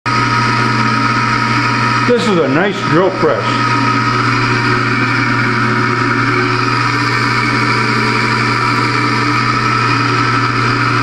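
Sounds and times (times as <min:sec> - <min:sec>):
drill press motor humming: 0:00.1 - 0:11.0.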